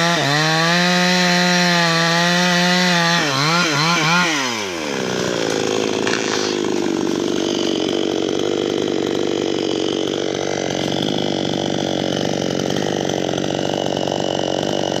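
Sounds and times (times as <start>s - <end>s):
two-stroke chainsaw engine: 0.0s - 15.0s.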